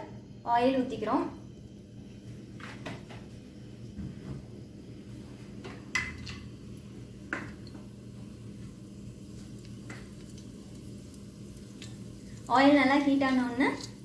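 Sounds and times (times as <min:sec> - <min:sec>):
low hum of oil heating: 0:00.0 - 0:14.0.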